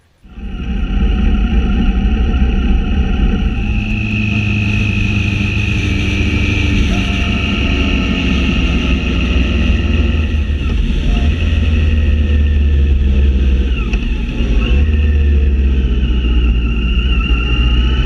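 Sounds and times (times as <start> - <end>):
motorcycle engine: 0.0 - 18.0
wind and road noise: 0.0 - 18.0.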